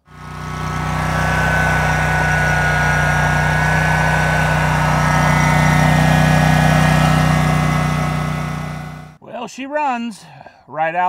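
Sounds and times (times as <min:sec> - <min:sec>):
mower engine running: 0:00.0 - 0:09.2.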